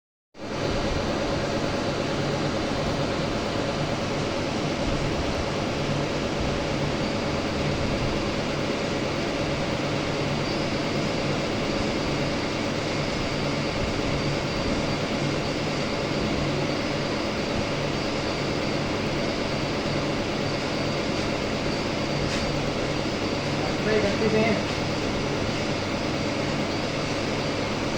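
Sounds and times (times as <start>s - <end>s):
faint high whine: 0.4s - 27.9s
milling machine humming: 0.4s - 27.9s.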